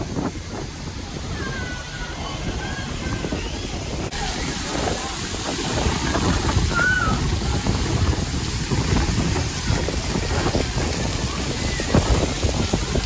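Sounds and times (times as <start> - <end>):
water spraying and splashing: 0.0 - 13.0
wind rumbling on microphone: 0.0 - 13.0.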